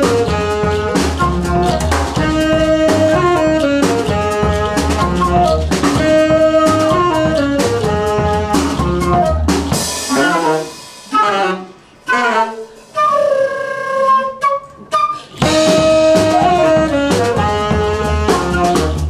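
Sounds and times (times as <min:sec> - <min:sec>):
jazz band playing: 0:00.0 - 0:19.0
woodwind solo: 0:00.0 - 0:19.0.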